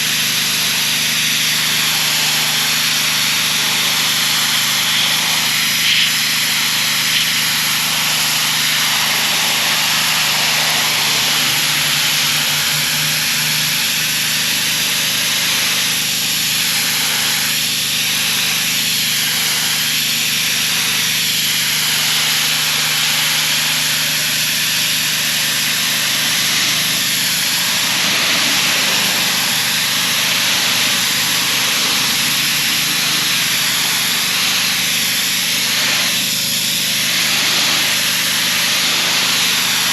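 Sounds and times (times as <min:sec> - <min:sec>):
pressure washer engine running: 0:00.0 - 0:39.9
water jet hissing: 0:00.8 - 0:39.9.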